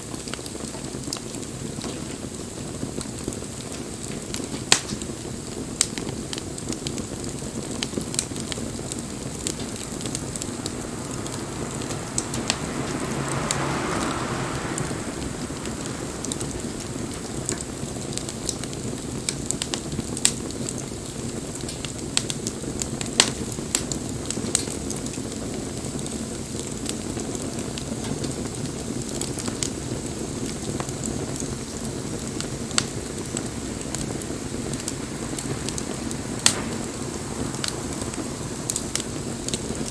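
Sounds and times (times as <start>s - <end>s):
bonfire flames rushing: 0.0s - 39.9s
fire pops and crackles: 0.0s - 39.9s.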